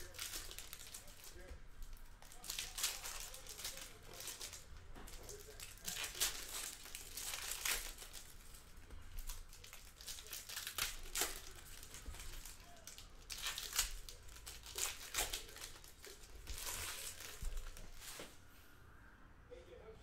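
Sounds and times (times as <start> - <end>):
foil wrappers crinkling and tearing: 0.0 - 18.4.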